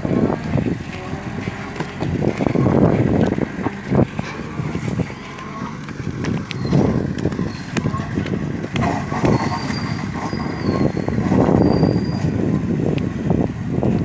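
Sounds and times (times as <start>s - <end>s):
knocks and rattles: 0.0s - 11.8s
truck engine under load: 0.0s - 14.0s.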